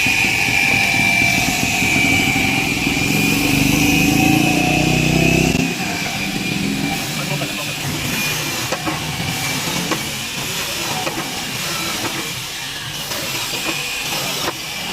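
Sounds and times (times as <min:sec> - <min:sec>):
motor high whine: 0:00.0 - 0:14.9.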